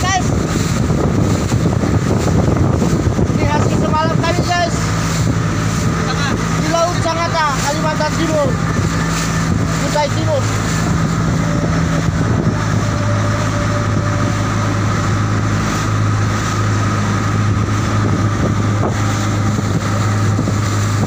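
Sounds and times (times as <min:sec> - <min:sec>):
boat engine droning: 0:00.0 - 0:21.0
water noise: 0:00.0 - 0:21.0
wind: 0:00.0 - 0:21.0.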